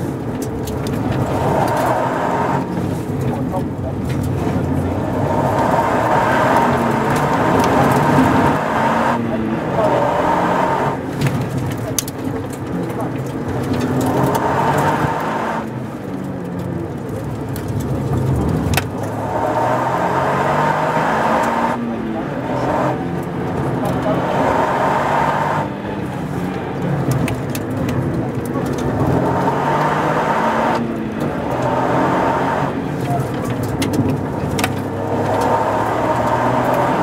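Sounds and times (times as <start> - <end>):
car engine pulling hard: 0.0 - 37.0
road and tyre noise: 0.0 - 37.0.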